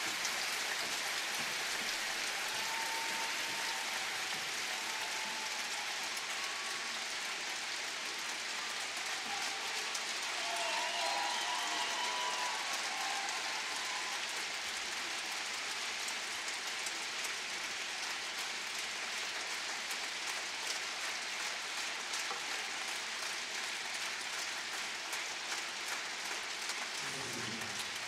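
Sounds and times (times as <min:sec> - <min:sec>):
large audience applauding: 0:00.0 - 0:28.0.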